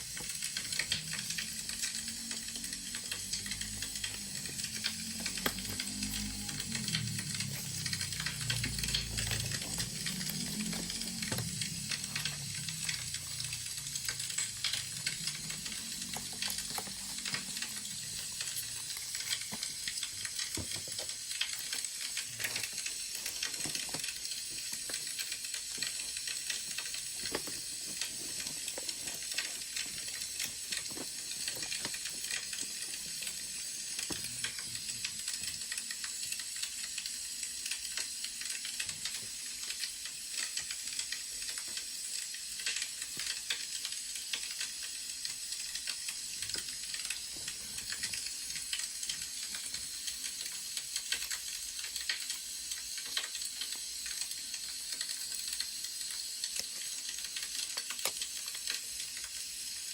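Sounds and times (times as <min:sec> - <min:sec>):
wood fire crackling: 0:00.0 - 0:59.2.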